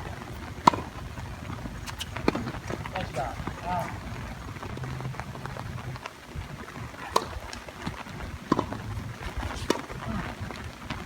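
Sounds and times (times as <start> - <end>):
tennis ball struck: 0.0 - 5.7, 6.8 - 10.5.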